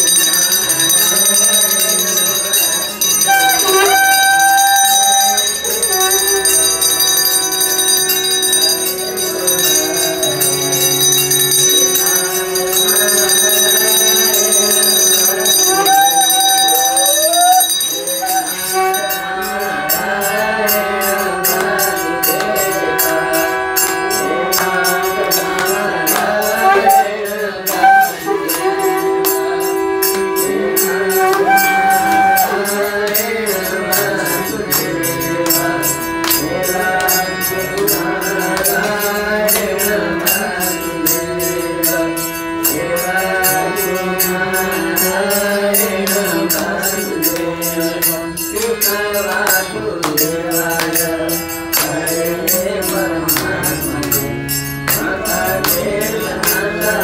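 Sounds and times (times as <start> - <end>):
bell ringing: 0.0 - 57.0
devotional singing: 0.0 - 57.0
harmonium tones: 0.0 - 57.0
rhythmic percussive beat: 0.0 - 57.0.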